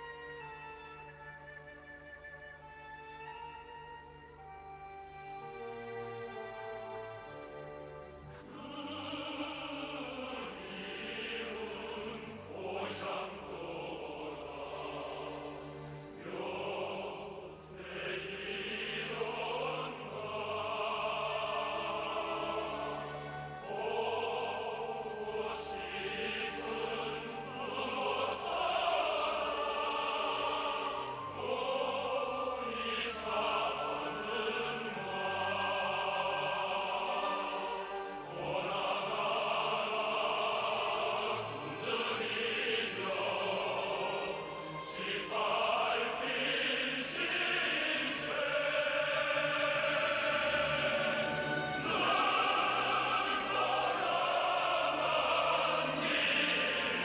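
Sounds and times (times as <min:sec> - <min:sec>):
orchestral accompaniment: 0:00.0 - 0:57.0
opera voices singing: 0:04.3 - 0:57.0.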